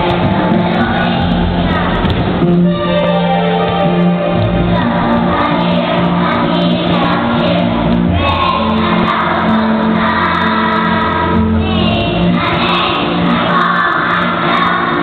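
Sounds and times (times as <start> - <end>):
children's choir singing: 0.0 - 15.0
sustained low instrumental notes: 0.0 - 15.0.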